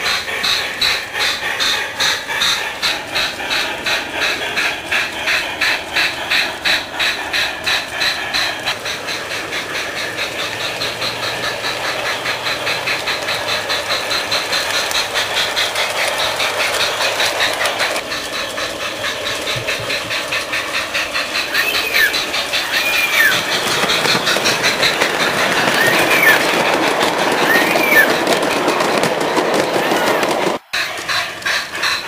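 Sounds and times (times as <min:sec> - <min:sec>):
model steam locomotive running: 0:00.0 - 0:32.0.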